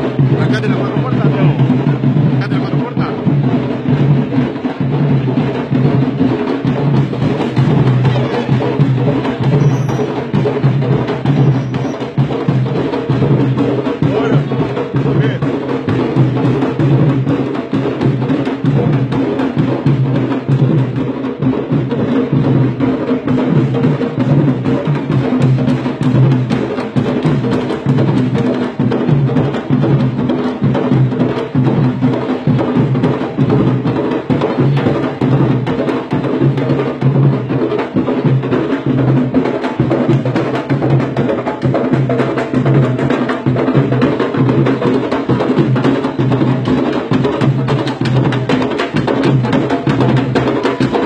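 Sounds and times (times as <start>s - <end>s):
drums played with hands and sticks: 0.0s - 51.0s.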